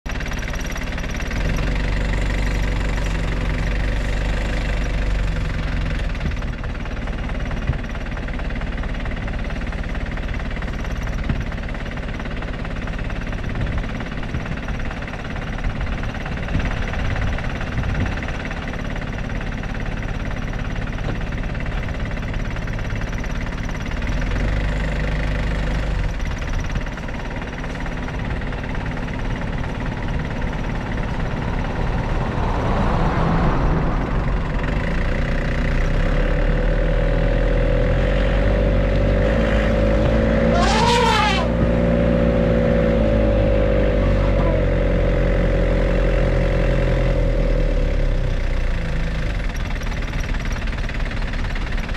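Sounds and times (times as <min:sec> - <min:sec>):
vehicle engine idling: 0:00.1 - 0:51.9.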